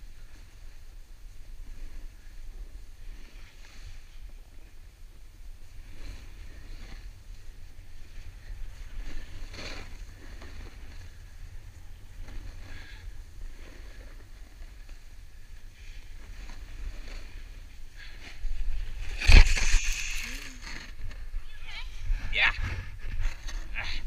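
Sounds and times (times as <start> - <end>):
snowboard scraping snow: 0.0 - 24.0
wind rumble on microphone: 0.0 - 24.0.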